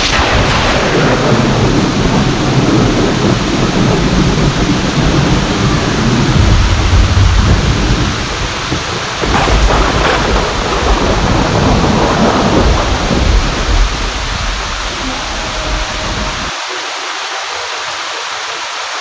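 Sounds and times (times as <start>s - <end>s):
low rolling thunder: 0.0s - 16.5s
heavy rain: 0.0s - 19.0s.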